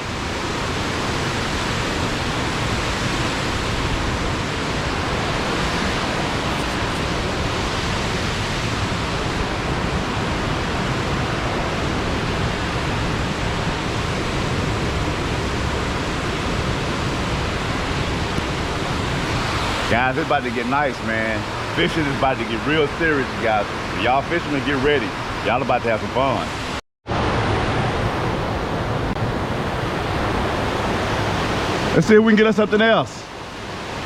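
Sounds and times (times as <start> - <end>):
water rushing in a roar: 0.0 - 34.0.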